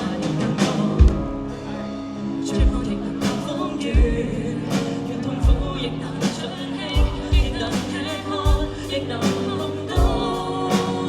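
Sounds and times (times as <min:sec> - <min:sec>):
live band playing: 0:00.0 - 0:11.0
person singing: 0:00.0 - 0:11.0.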